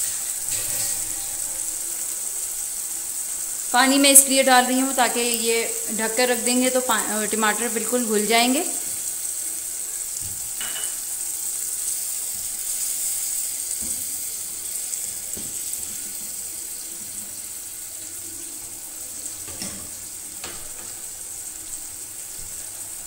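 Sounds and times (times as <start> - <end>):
sauce sizzling and bubbling in pot: 0.0 - 23.0.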